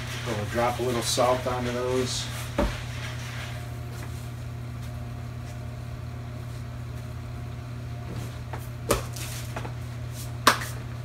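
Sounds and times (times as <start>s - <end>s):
appliance humming: 0.0s - 11.0s.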